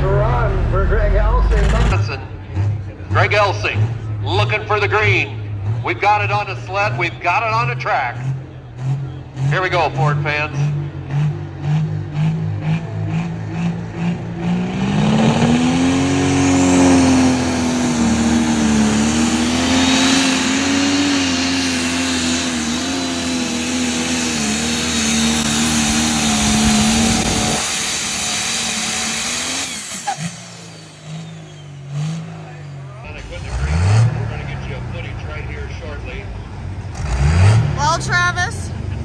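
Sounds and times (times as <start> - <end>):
tractor engine at full throttle: 0.0 - 39.0.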